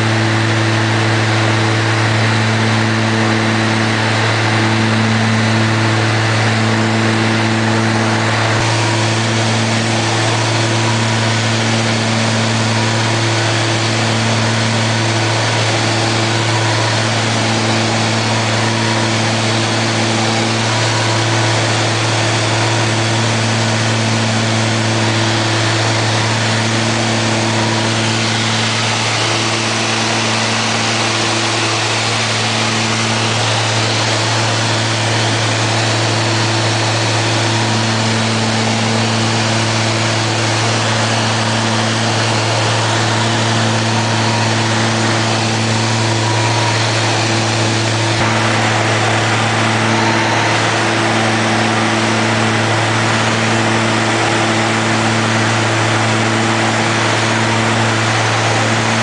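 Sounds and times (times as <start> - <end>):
propeller aircraft cabin drone: 0.0 - 59.0.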